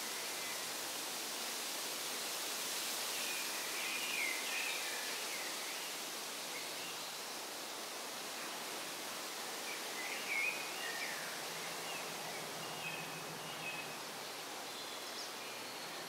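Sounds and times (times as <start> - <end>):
steady woodland hiss: 0.0 - 16.0.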